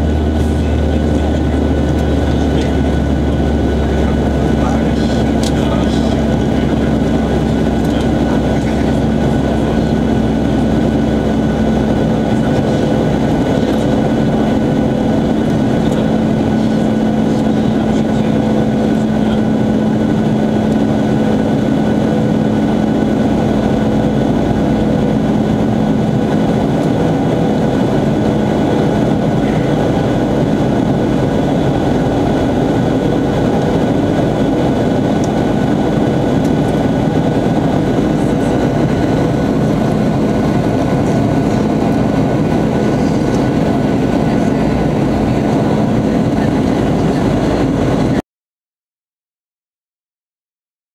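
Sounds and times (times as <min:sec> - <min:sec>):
jet engines droning in cabin: 0:00.0 - 0:48.2
low steady hum: 0:00.0 - 0:48.2.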